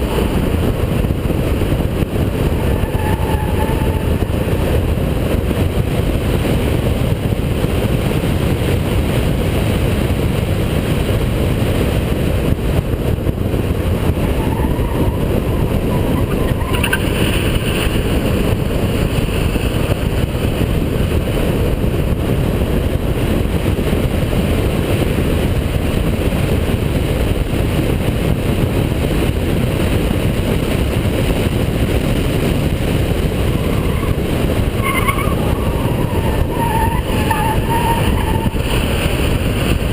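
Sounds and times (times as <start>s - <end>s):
car engine running hard: 0.0s - 39.9s
road and wind noise: 0.0s - 39.9s.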